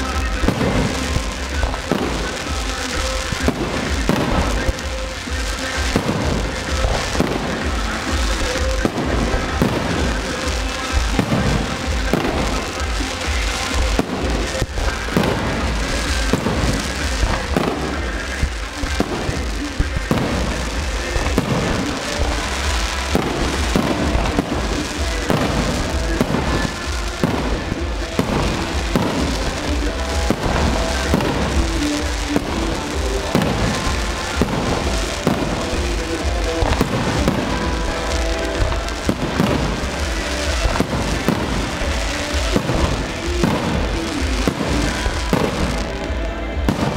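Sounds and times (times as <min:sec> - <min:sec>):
firework bangs and crackles: 0:00.0 - 0:46.9
music playing: 0:00.0 - 0:46.9.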